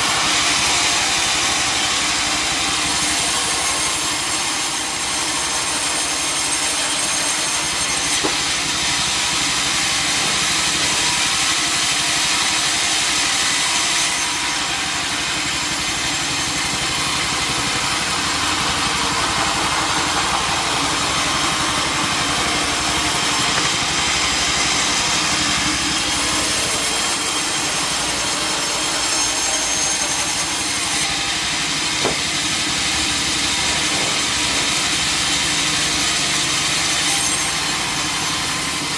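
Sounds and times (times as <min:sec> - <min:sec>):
sawmill saw cutting log: 0:00.0 - 0:38.9.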